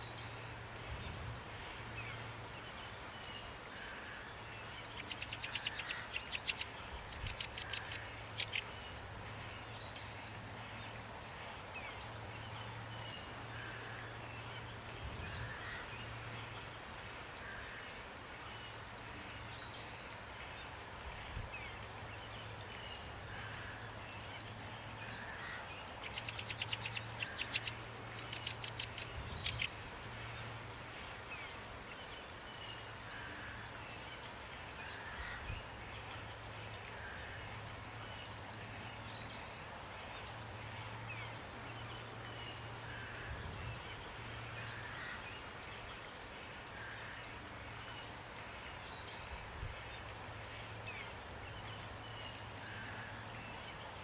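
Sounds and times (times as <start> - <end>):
rain falling: 0.0 - 54.0
songbirds chirping: 0.0 - 54.0.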